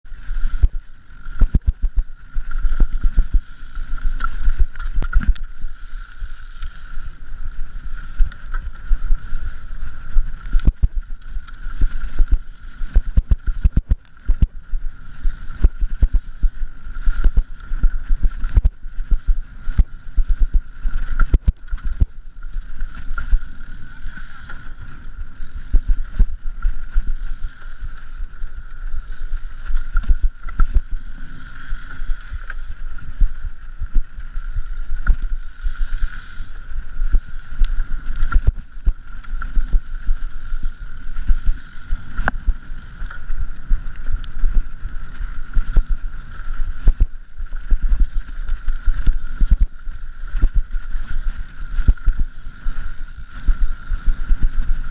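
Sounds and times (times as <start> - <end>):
steady high-pitched hum: 0.1 - 54.9.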